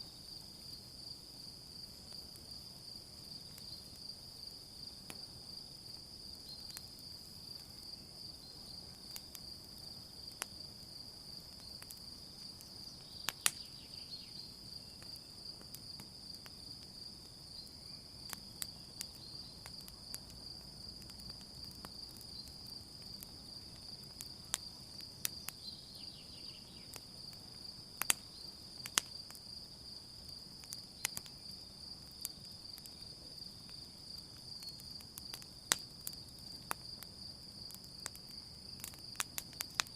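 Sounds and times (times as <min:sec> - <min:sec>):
crickets chirring: 0:00.0 - 0:39.9
campfire crackling and popping: 0:00.1 - 0:39.9.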